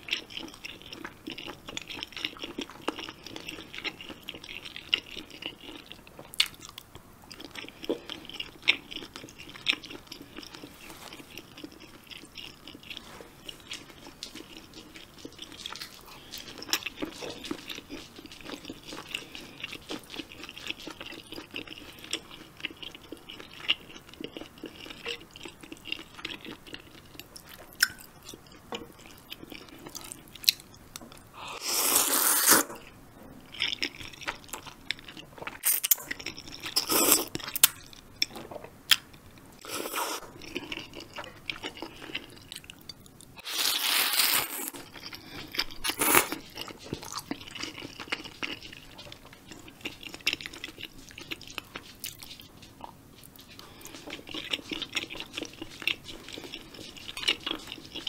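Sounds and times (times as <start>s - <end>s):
person chewing and crunching: 0.0s - 58.0s.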